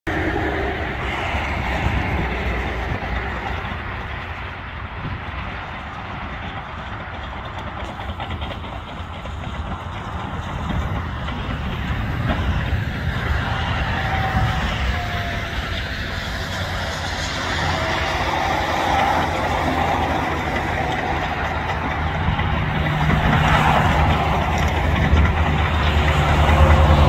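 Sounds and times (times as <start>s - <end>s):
bulldozer diesel engine running: 0.1s - 27.0s
road roller engine running: 0.1s - 27.0s
steel tracks clattering: 0.1s - 27.0s.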